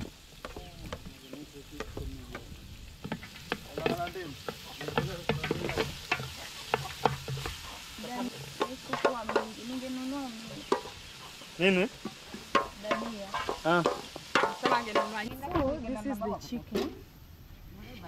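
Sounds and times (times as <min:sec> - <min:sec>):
chicken sizzling in a pot: 0:00.0 - 0:18.0.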